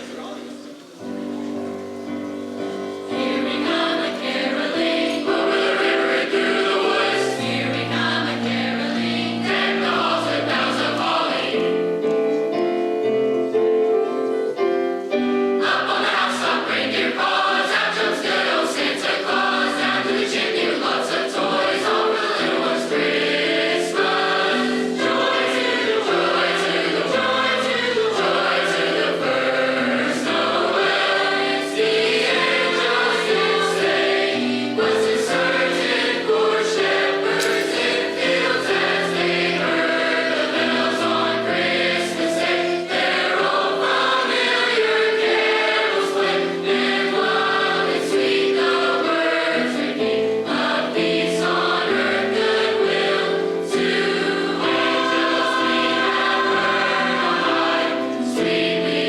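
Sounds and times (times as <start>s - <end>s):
choir singing with accompaniment: 0.0s - 59.0s.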